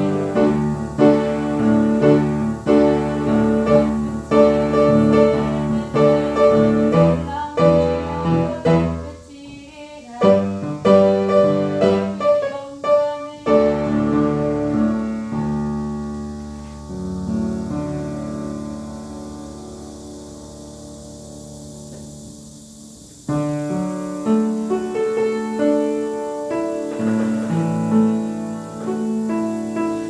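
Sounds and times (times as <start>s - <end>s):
piano chords: 0.0s - 30.0s.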